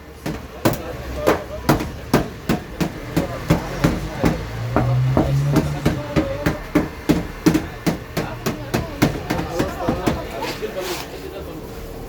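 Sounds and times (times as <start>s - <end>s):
hammer tapping sheet metal: 0.1s - 10.5s.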